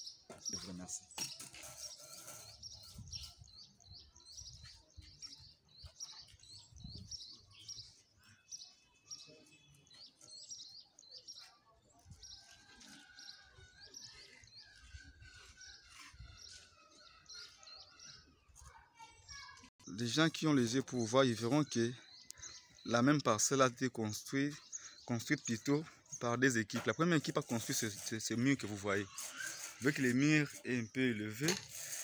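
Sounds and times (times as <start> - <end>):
small bird chirping: 0.0 - 20.3, 24.2 - 32.0.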